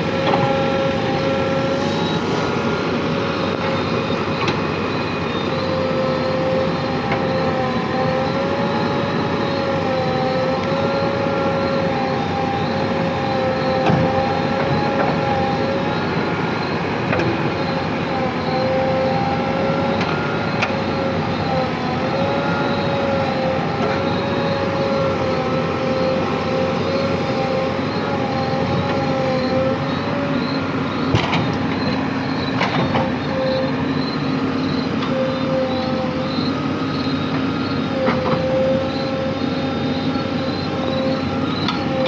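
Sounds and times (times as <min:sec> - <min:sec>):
diesel engine running under load: 0:00.0 - 0:42.0
wavering whine: 0:00.0 - 0:42.0.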